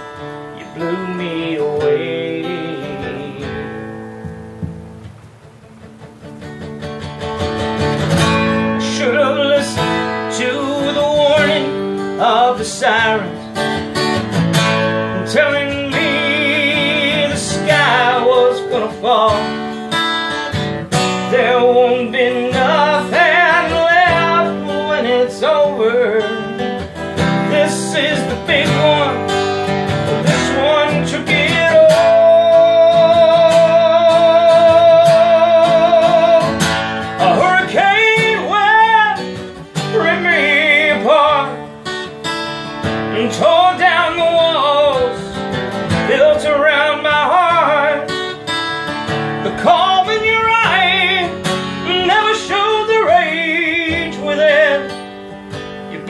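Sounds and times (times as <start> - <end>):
man singing country song: 0.0 - 4.6, 7.5 - 56.0
strummed acoustic guitar: 0.0 - 56.0.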